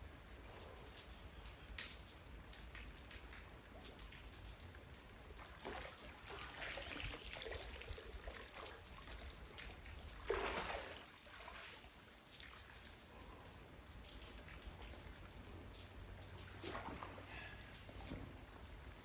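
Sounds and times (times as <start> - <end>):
rain: 0.0 - 19.0
water trickling and splashing: 0.0 - 19.0.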